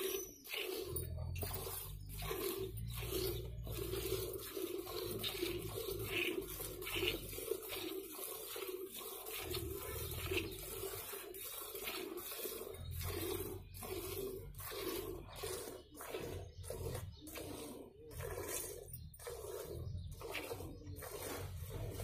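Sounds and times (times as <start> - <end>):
milk squirting into steel pail: 0.0 - 22.0.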